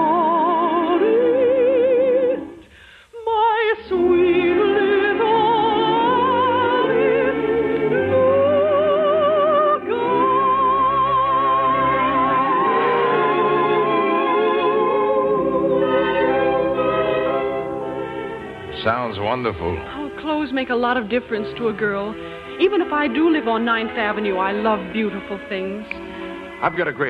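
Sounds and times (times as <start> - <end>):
operatic singer holding notes: 3.2 - 25.2
orchestral music: 3.9 - 27.0.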